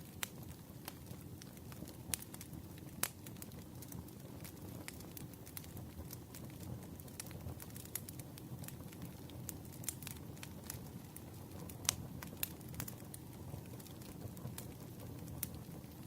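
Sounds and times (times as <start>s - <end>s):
burning wood crackles and pops: 0.0s - 16.0s
flames rumbling: 0.0s - 16.0s.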